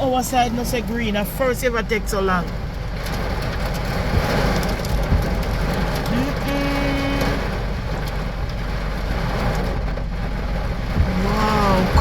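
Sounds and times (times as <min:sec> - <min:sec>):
rain and wind beating on a car: 0:00.0 - 0:12.0.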